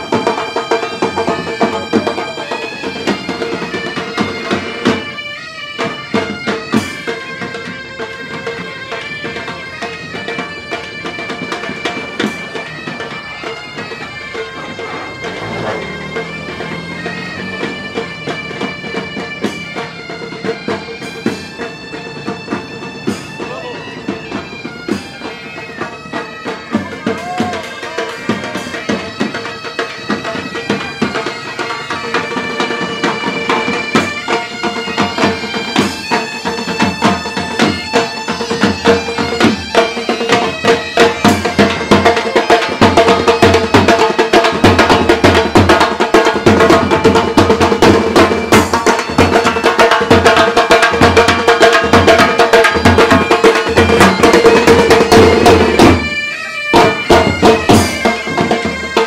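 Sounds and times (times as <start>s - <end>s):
bagpipes playing melody: 0.0s - 59.0s
drums beating: 0.0s - 59.0s.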